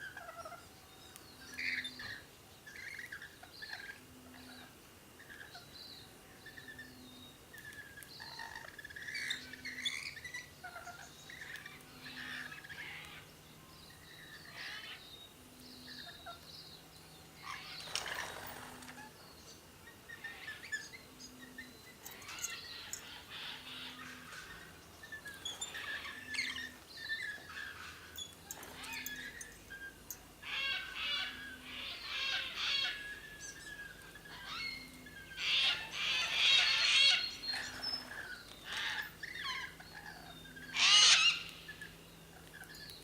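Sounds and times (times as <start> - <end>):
birds chirping and calling: 0.0 - 43.0
loud rough bird sound: 0.0 - 43.0.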